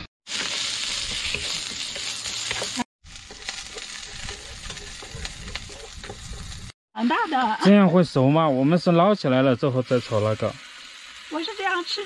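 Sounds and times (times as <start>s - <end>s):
food sizzling in a pan: 0.3s - 12.0s.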